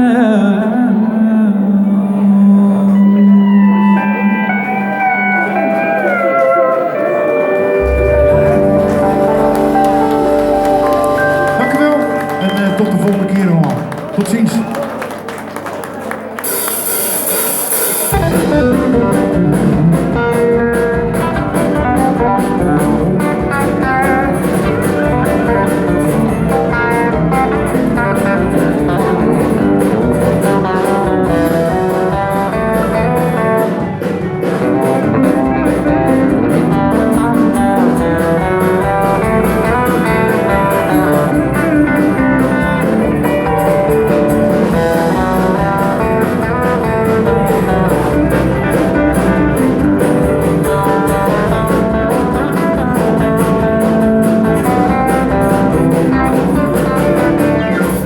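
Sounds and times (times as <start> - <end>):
band playing guitar and drums: 2.9 - 58.0.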